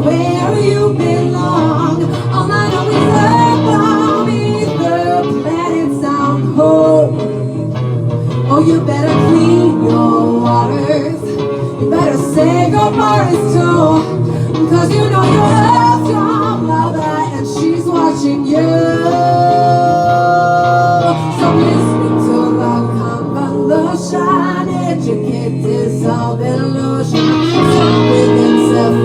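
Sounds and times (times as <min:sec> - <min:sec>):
person singing: 0:00.0 - 0:29.0.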